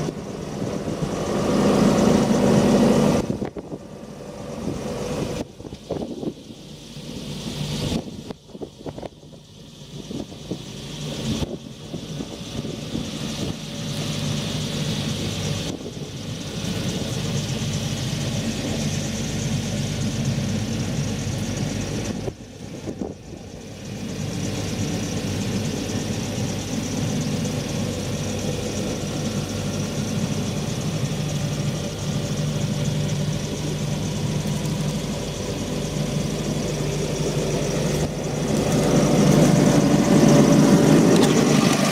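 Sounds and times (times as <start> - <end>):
diesel generator running: 0.0 - 41.9.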